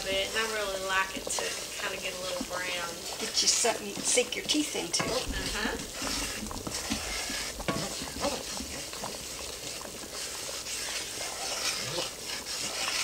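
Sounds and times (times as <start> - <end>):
roux sizzling in a skillet: 0.0 - 13.0
wooden spoon scraping a pan: 0.0 - 13.0.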